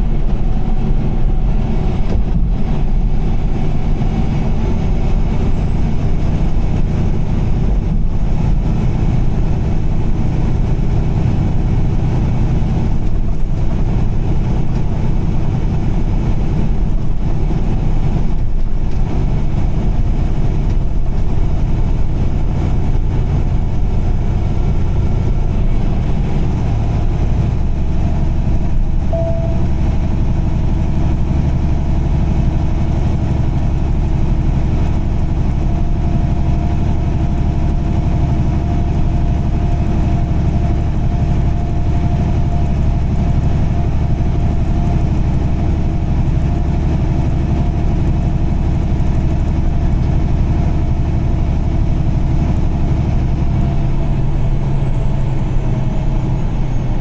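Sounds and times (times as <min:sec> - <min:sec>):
car engine hum: 0:00.0 - 0:56.6.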